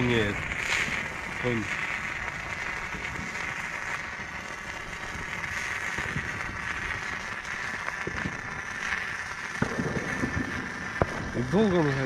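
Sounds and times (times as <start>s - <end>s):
fire torches hissing: 0.0s - 12.0s.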